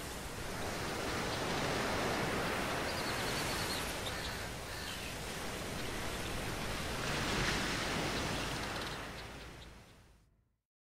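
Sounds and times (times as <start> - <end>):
surf washing onto beach: 0.0 - 9.2.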